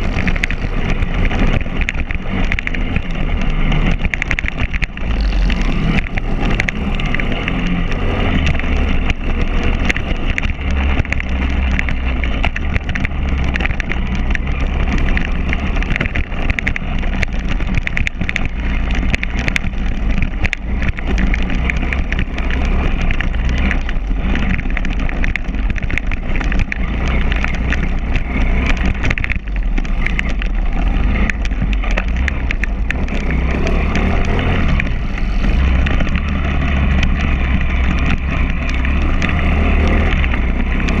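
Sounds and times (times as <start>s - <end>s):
clattering and knocking over bumps: 0.0s - 41.0s
motorbike engine running: 0.0s - 41.0s.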